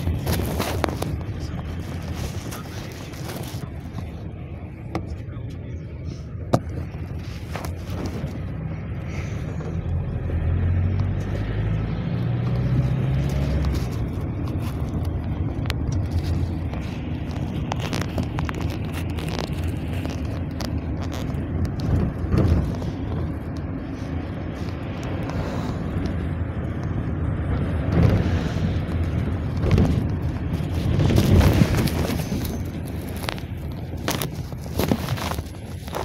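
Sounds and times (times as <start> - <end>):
body rattles and knocks: 0.0 - 5.2, 6.4 - 8.7, 12.4 - 36.0
minibus engine running: 0.0 - 36.0
road rumble: 0.0 - 36.0.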